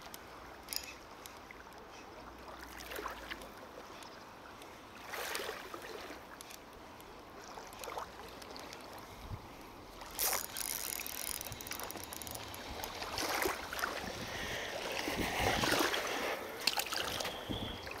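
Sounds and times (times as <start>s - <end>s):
water splashing at shoreline: 0.1s - 18.0s.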